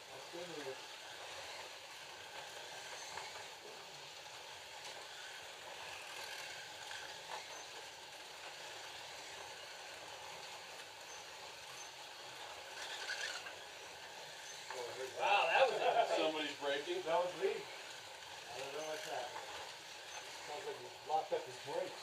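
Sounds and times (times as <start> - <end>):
slot car motors whirring: 0.0 - 22.0.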